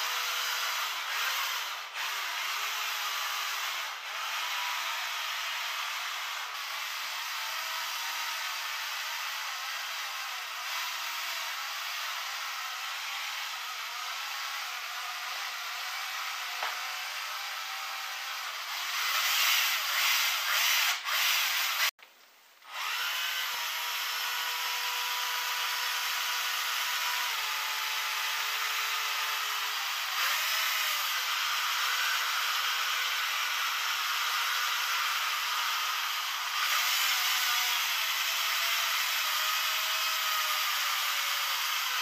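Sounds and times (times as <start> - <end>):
cordless screwdriver motor whirring: 0.0 - 14.5, 15.2 - 21.9, 22.7 - 42.0.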